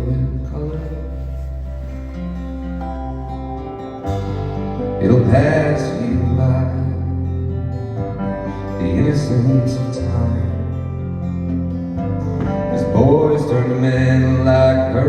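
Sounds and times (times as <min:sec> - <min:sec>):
live country band: 0:00.0 - 0:15.0
wavering melody line: 0:00.7 - 0:14.8.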